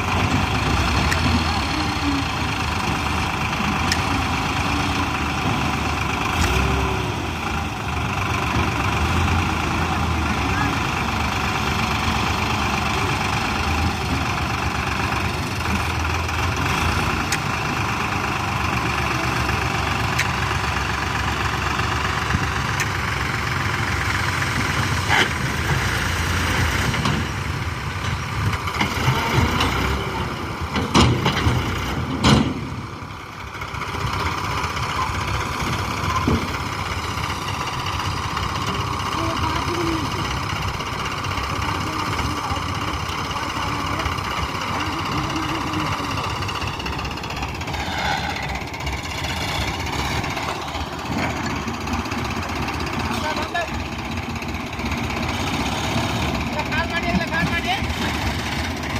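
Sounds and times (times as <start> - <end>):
heavy vehicle engine running: 0.0 - 58.9.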